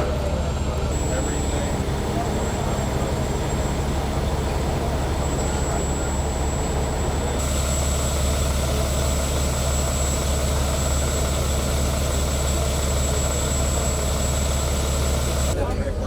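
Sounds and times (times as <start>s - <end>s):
deep engine drone: 0.0s - 15.6s.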